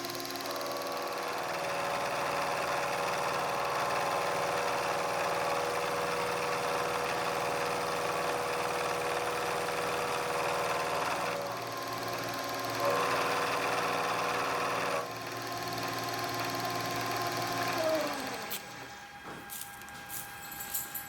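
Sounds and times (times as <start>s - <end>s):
shop machine whining: 0.0s - 21.0s.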